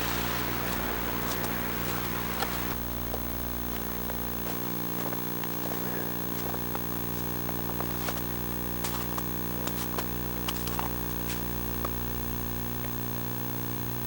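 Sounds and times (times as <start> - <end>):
electrical buzz: 0.0 - 14.0.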